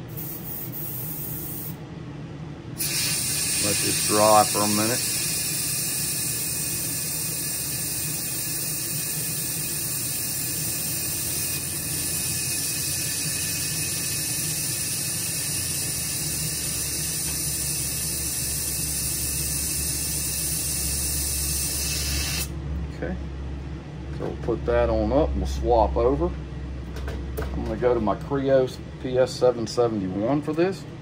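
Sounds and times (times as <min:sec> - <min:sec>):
exhaust fan rushing: 0:00.0 - 0:31.0.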